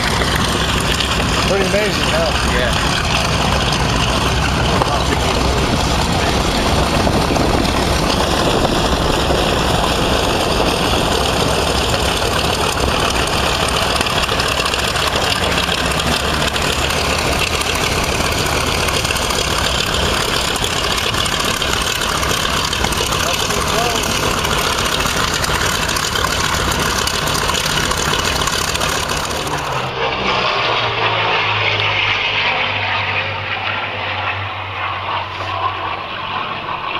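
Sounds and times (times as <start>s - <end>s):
radial engines droning: 0.0s - 36.9s.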